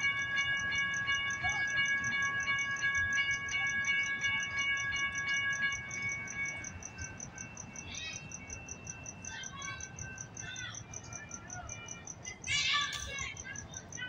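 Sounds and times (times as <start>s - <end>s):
crossing warning bell ringing: 0.0s - 14.0s.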